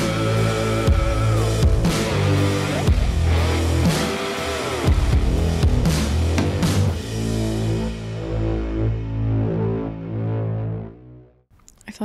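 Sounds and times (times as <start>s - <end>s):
background music with low notes: 0.0s - 11.4s.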